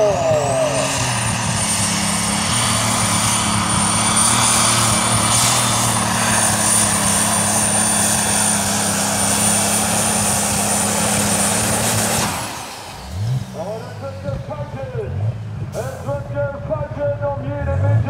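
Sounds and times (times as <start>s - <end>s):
tractor engine running flat out: 0.0s - 18.0s.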